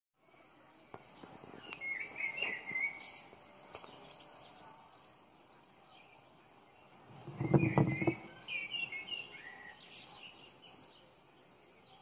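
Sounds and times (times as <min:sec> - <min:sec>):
birds chirping and warbling: 0:00.2 - 0:12.0.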